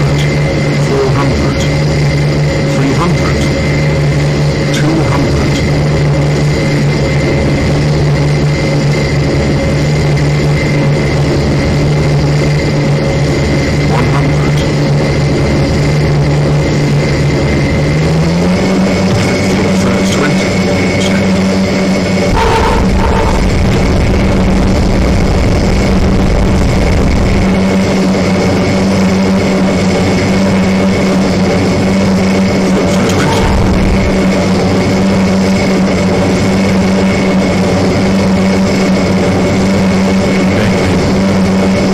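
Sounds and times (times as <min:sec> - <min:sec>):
airplane engines droning: 0:00.0 - 0:41.9.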